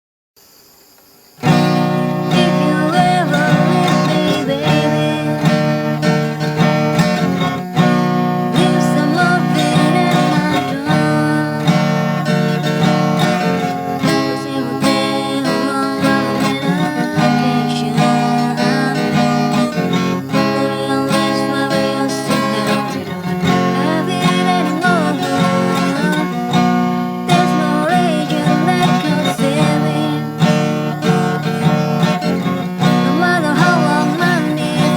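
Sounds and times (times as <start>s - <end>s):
acoustic guitar music: 1.4s - 34.9s.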